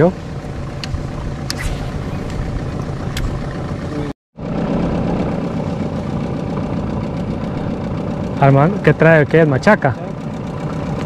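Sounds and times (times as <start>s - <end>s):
outboard motor running: 0.2s - 11.0s.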